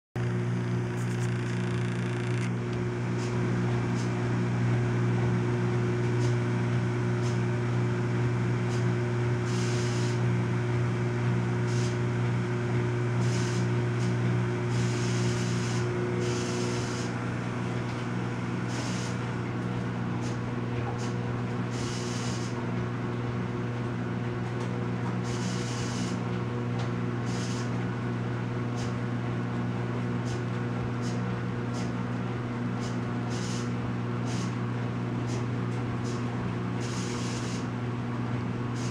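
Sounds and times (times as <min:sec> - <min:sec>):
appliance motor hum: 0:00.2 - 0:38.9.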